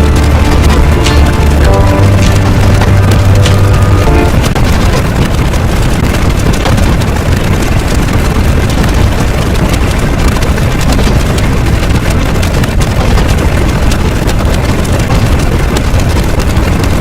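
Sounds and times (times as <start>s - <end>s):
faint crackling: 0.0s - 17.0s
loud low rumble with hiss: 0.0s - 17.0s.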